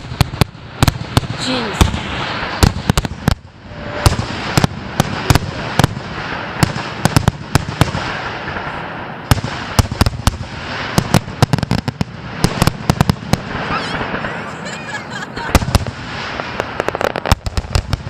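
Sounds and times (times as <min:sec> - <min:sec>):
fireworks bangs: 0:00.0 - 0:18.0
steady hiss: 0:00.0 - 0:18.0.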